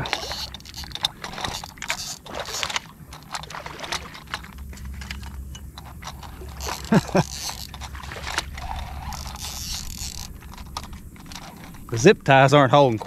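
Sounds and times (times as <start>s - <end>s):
fishing reel clicking and rattling: 0.0s - 13.0s.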